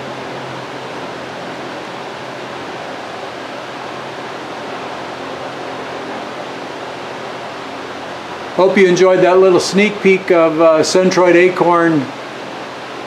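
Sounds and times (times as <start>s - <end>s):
small cooling fan hissing: 0.0s - 13.0s.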